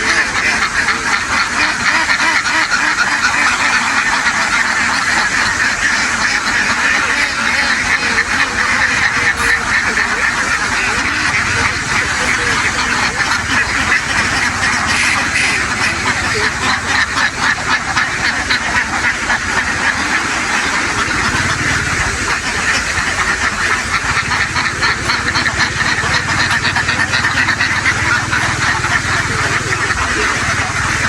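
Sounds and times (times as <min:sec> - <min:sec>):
ducks quacking: 0:00.0 - 0:31.0
low steady hum: 0:00.0 - 0:31.0.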